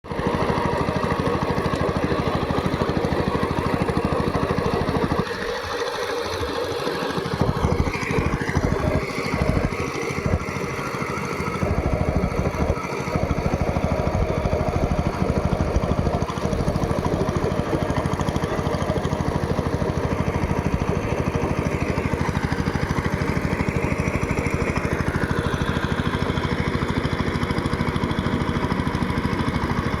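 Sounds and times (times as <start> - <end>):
power tiller engine running: 0.0 - 30.0.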